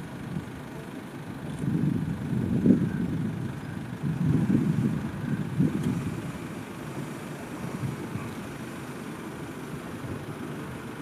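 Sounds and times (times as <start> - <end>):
wind buffeting microphone: 1.5 - 11.0.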